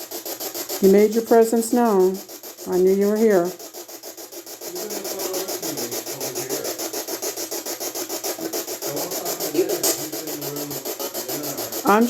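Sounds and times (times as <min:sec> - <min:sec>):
pulsing scratchy static: 0:00.0 - 0:12.0.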